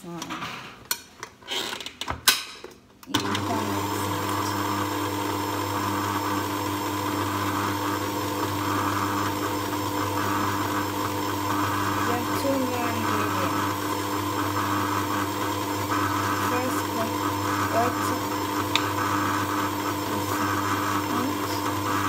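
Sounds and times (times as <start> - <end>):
stand mixer motor humming: 3.1 - 22.0.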